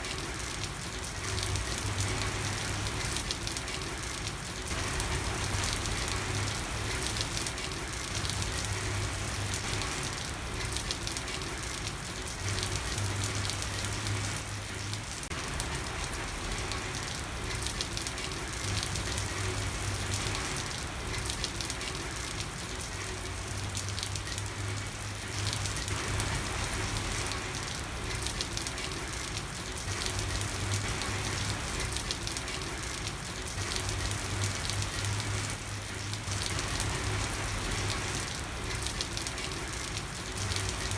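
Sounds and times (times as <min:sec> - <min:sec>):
rain falling on street: 0:00.0 - 0:40.9.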